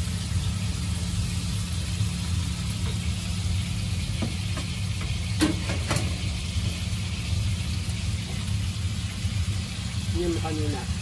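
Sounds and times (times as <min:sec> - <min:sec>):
exhaust fan humming: 0:00.0 - 0:11.0
meat sizzling in a frying pan: 0:00.0 - 0:11.0.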